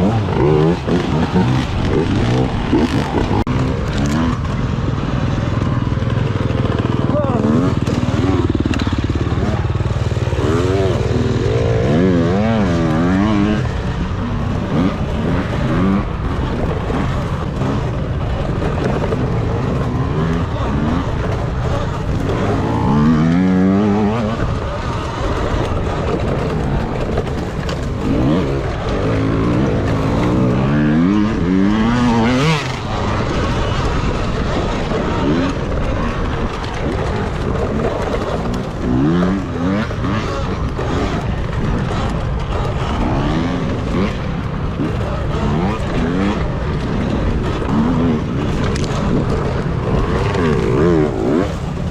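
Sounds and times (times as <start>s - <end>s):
motorcycle engines revving: 0.0s - 51.9s
riding noise: 0.0s - 51.9s.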